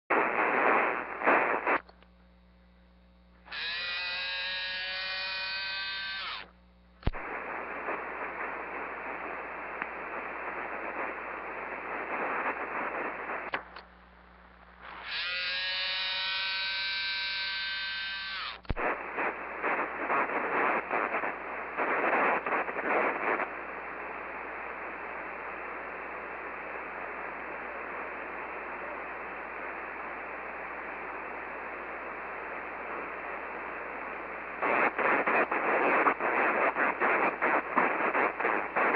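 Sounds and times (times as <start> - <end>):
radio hiss and crackle: 0.0 - 38.9.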